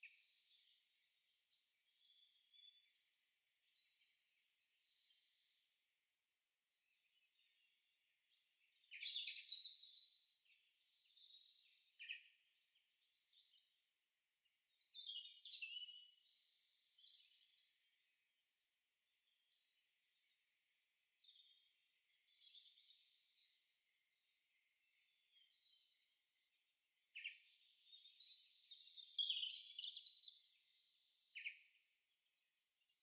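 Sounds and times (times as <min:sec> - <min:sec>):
faint songbirds singing: 0:00.0 - 0:33.0.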